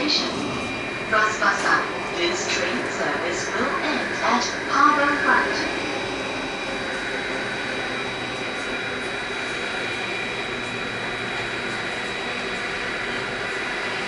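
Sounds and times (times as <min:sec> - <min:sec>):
subway train rushing through tunnel: 0:00.0 - 0:14.0.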